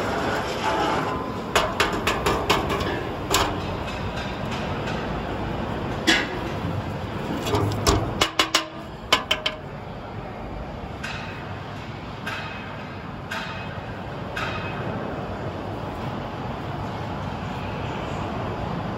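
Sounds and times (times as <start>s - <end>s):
workshop hum: 0.0s - 18.9s.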